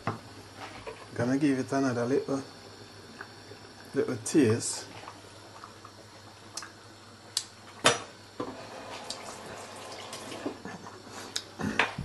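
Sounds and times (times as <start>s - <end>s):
stew simmering: 0.0s - 12.0s.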